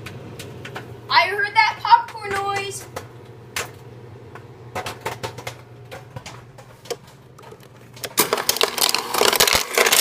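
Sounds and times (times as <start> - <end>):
microwave oven humming: 0.0 - 10.0
popcorn popping: 0.0 - 10.0.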